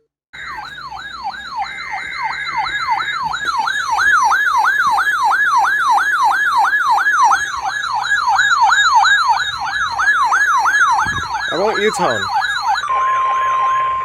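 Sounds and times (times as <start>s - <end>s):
electronic siren yelp: 0.4s - 14.0s
steady high tone: 0.4s - 14.0s.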